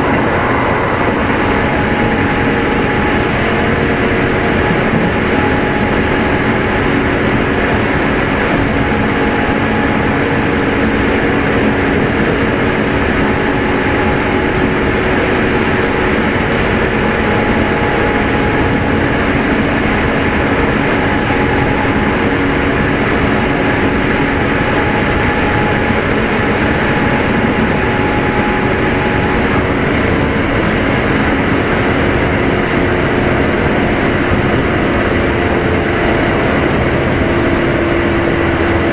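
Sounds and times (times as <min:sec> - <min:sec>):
traction motors humming: 0:00.0 - 0:38.9
wheels rumbling on rails: 0:00.0 - 0:38.9.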